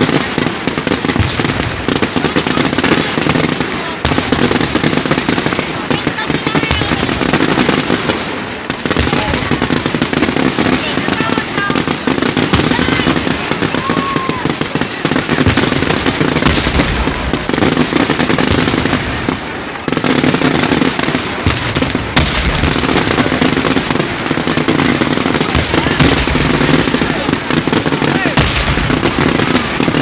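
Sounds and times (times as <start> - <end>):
crowd voices: 0.0 - 30.0
firecrackers crackling and popping: 0.0 - 30.0.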